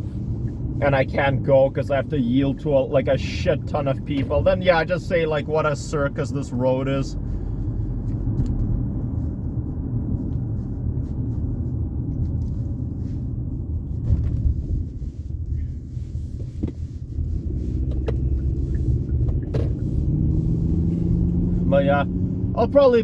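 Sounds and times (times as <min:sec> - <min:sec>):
engine hum: 0:00.0 - 0:23.0
road and engine rumble: 0:00.0 - 0:23.0.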